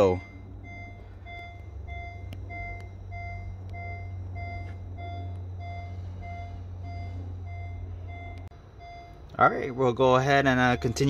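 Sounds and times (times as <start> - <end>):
car warning chime beeping: 0.0 - 11.0
low steady hum: 0.0 - 11.0.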